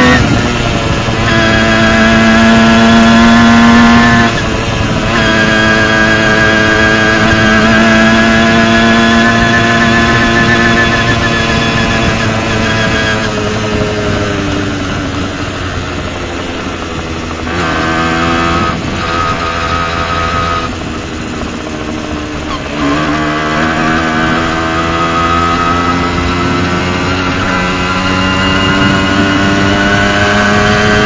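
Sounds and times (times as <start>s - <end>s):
moped engine revving: 0.0s - 31.0s.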